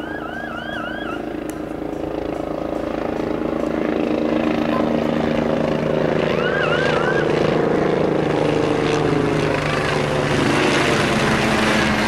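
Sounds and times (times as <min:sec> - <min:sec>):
helicopter engine whine: 0:00.0 - 0:12.0
helicopter rotor chopping: 0:00.0 - 0:12.0.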